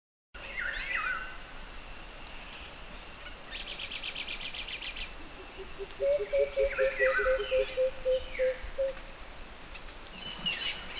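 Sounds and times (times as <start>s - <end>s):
high insect tone: 0.4s - 10.9s.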